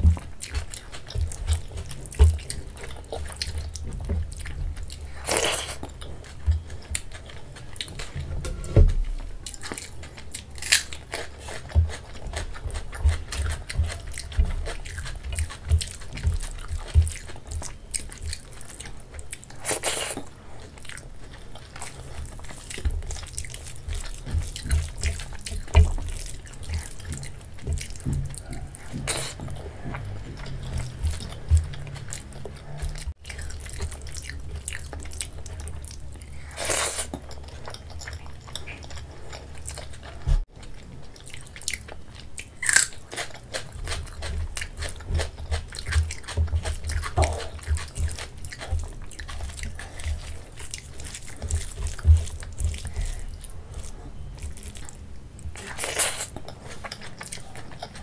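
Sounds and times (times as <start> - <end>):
chewing with lip smacks: 0.0 - 8.3, 8.9 - 58.0
wet squelching of food: 8.9 - 40.5, 41.3 - 58.0.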